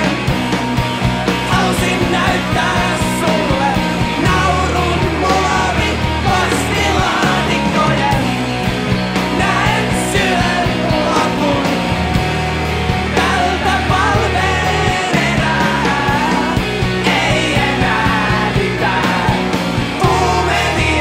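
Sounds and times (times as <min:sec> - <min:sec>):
bass guitar: 0:00.0 - 0:21.0
driving drum beat: 0:00.0 - 0:21.0
electric guitar: 0:00.0 - 0:21.0.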